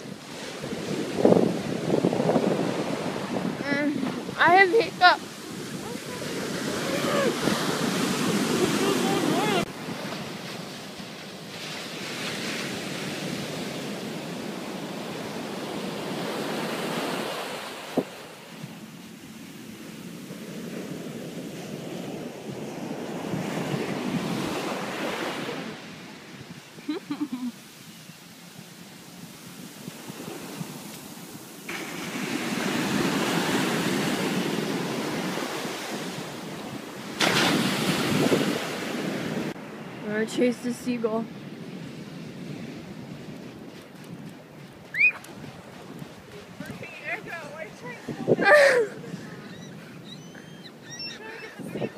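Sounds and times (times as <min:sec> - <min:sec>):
ocean surf on beach: 0:00.0 - 0:51.9
wind on microphone: 0:00.0 - 0:51.9.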